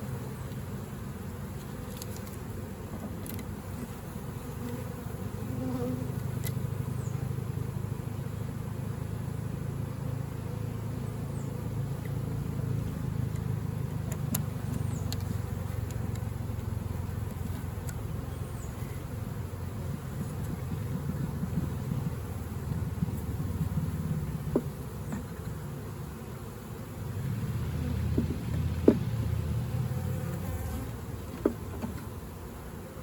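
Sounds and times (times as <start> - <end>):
honeybees buzzing: 0.0 - 33.0.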